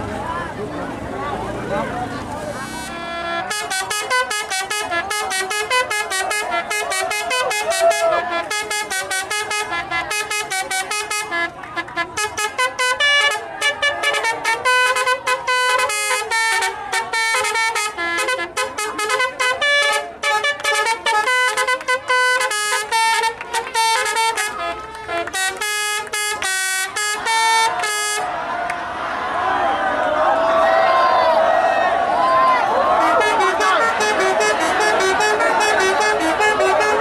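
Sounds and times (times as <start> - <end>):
musical bus horn playing tune: 2.4 - 28.4, 32.6 - 37.0.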